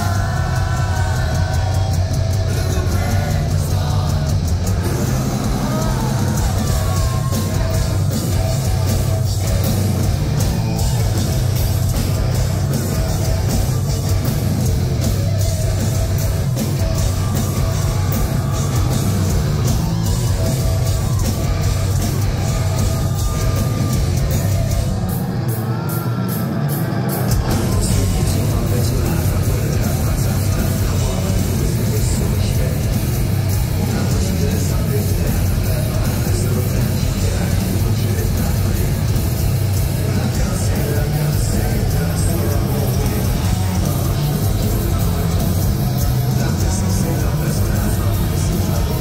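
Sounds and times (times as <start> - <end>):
lead vocals: 0.0 - 49.0
live heavy rock band: 0.0 - 49.0.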